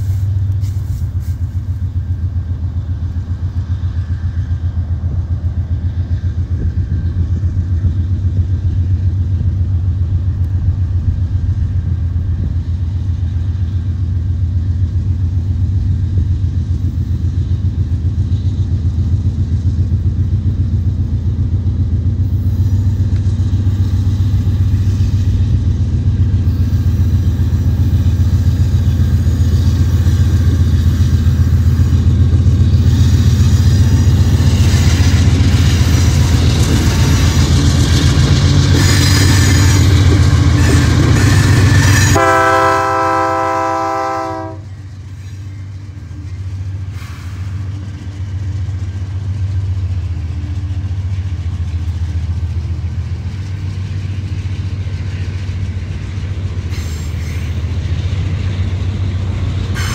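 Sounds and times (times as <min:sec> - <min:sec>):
diesel locomotive engine rumble: 0:00.0 - 0:59.9
train wheels on rails: 0:00.0 - 0:59.9.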